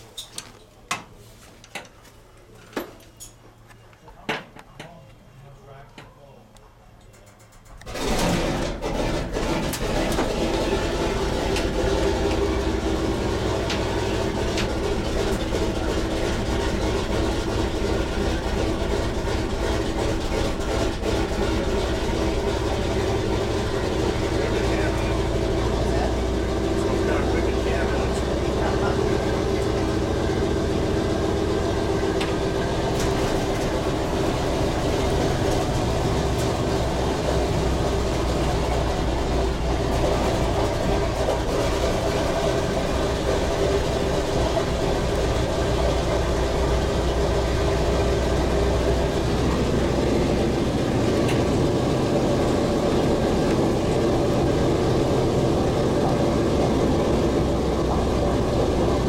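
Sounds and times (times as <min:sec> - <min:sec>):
radial engines idling: 0:07.8 - 0:59.0.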